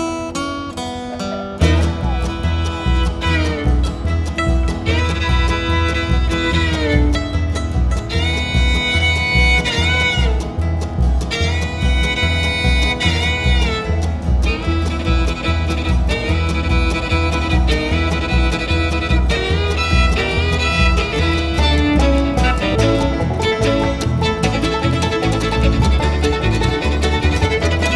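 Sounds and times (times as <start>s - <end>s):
guitar: 0.0s - 27.9s
fiddle melody: 1.6s - 27.9s
steady bass beat: 1.6s - 27.9s.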